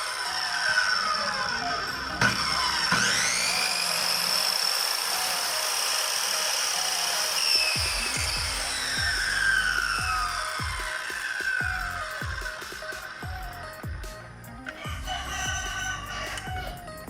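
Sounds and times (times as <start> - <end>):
circular saw whining: 0.0 - 17.0.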